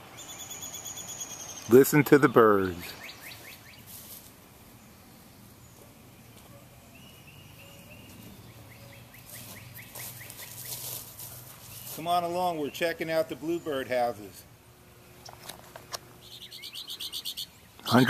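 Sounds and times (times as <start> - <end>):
faint songbirds singing: 0.0 - 18.0.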